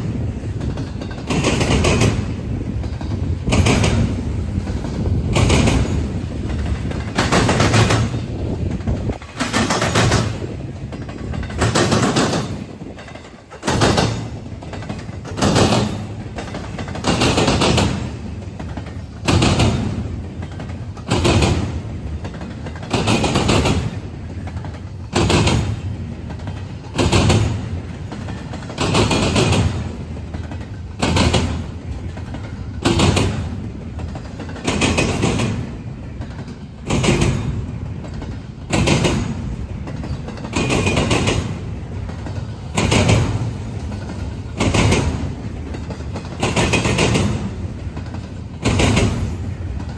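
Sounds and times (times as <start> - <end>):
train wheels banging over track: 0.0 - 49.9.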